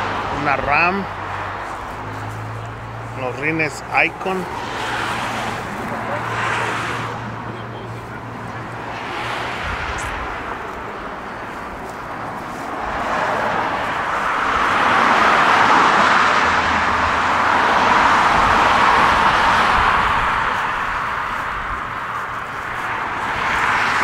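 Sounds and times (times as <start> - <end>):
vehicle running noise: 0.0 - 24.0.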